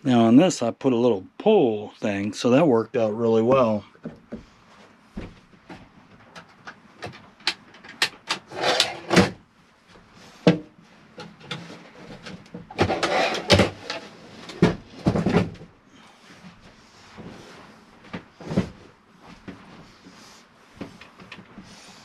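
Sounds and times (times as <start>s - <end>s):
bedding rustling and scraping: 4.2s - 22.0s.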